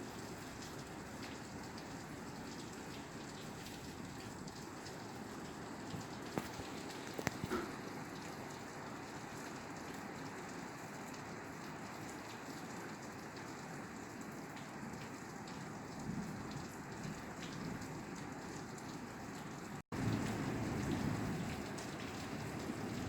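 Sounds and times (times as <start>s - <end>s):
rain falling on a roof: 0.0s - 23.0s.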